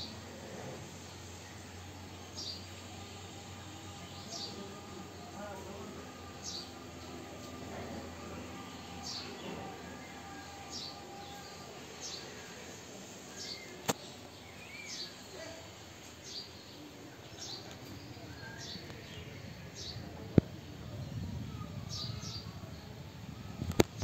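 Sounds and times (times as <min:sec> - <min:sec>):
faint background noise: 0:00.0 - 0:24.0
small birds chirping: 0:00.9 - 0:24.0.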